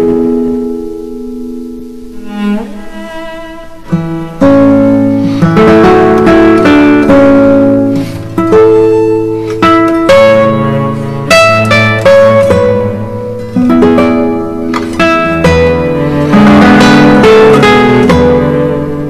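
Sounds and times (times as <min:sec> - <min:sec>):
plucked acoustic guitar melody: 0:00.0 - 0:19.0.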